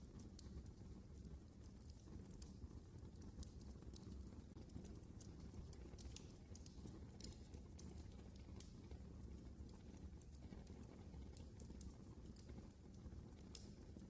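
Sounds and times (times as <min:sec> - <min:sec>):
fire pops and snaps: 0:00.0 - 0:14.0
low fire rumble: 0:00.0 - 0:14.0
wood fire crackling: 0:00.0 - 0:14.0.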